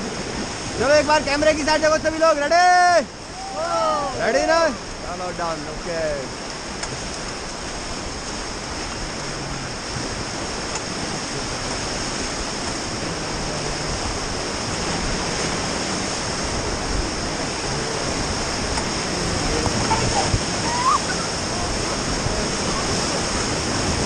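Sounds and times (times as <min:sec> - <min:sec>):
whitewater rapids rushing: 0:00.0 - 0:24.0.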